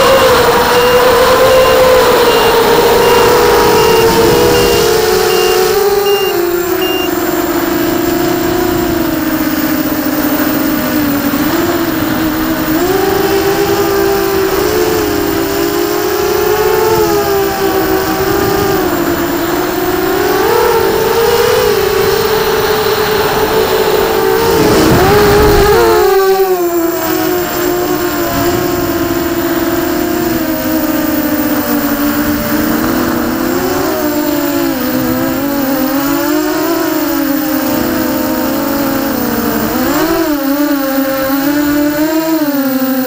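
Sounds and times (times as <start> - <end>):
drone motors whining: 0.0 - 43.0.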